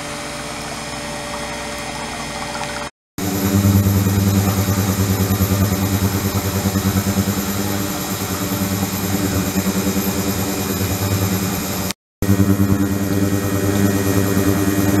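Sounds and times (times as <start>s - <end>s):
low electrical hum: 0.0s - 15.0s
thin high whine: 0.0s - 15.0s.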